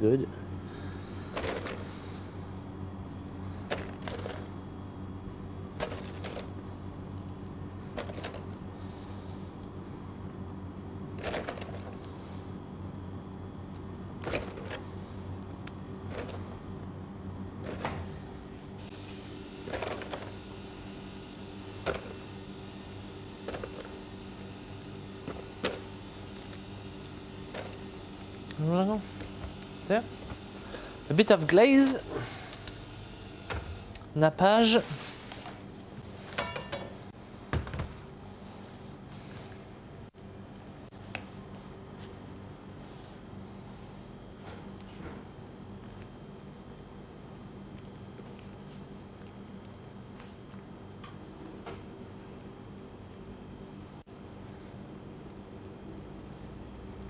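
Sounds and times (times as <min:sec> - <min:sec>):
kitchen equipment hum: 0:00.0 - 0:57.0.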